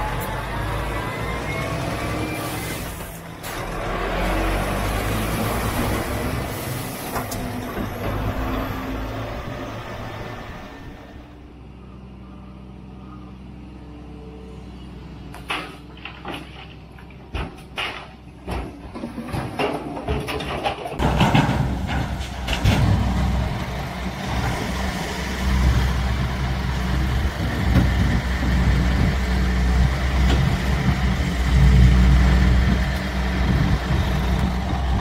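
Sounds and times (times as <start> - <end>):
diesel truck engine running: 0.0 - 14.2, 21.0 - 35.0
excavator engine hum: 0.0 - 35.0
wind and road noise: 0.0 - 35.0.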